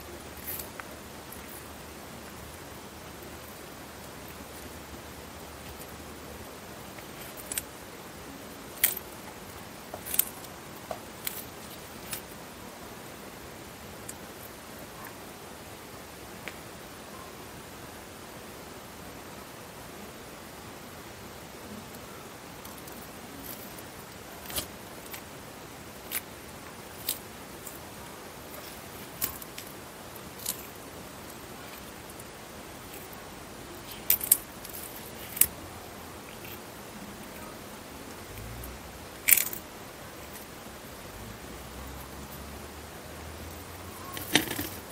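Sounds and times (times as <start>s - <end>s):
steady hiss: 0.0s - 44.9s.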